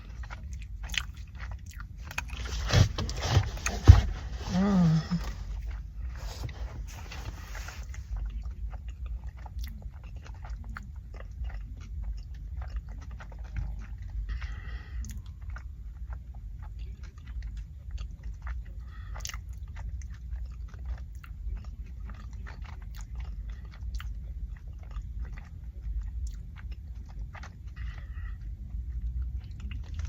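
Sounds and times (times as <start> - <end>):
person chewing food: 0.0 - 30.0
steady low hum: 0.0 - 30.0.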